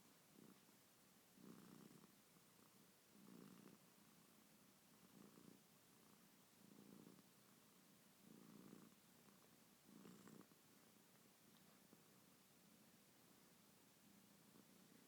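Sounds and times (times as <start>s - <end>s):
cat snoring faintly: 0.0s - 15.0s.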